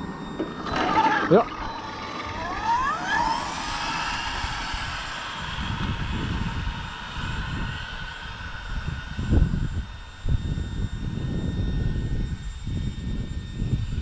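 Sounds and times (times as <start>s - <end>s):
electric motor whining: 0.0s - 14.0s
wind rumbling on microphone: 0.0s - 14.0s.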